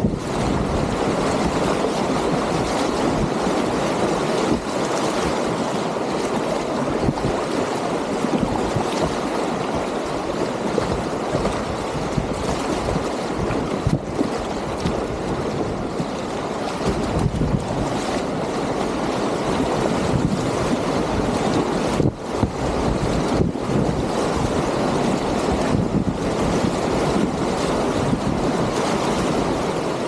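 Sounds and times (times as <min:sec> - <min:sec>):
whitewater rapids rushing: 0:00.0 - 0:30.0.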